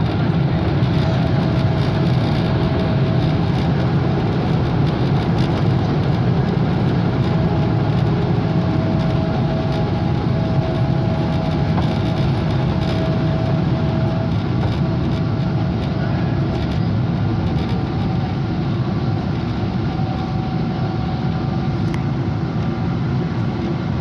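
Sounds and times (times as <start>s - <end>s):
high engine whine: 0.0s - 24.0s
jet engines rumbling: 0.0s - 24.0s.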